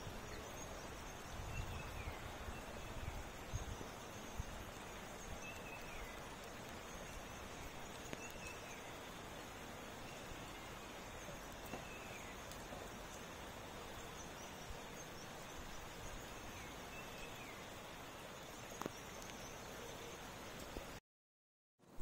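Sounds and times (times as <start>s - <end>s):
birds chirping: 0.0s - 21.0s
rain hiss: 0.0s - 21.0s.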